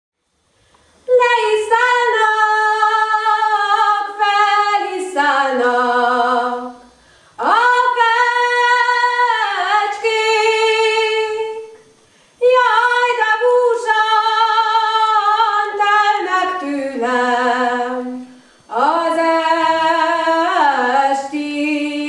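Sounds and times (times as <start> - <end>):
young woman singing unaccompanied: 1.1 - 11.8, 12.4 - 22.0.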